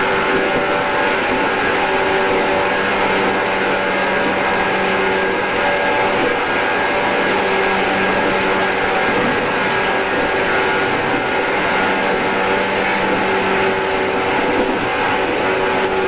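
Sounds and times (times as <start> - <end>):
electric train motor hum: 0.0 - 16.0.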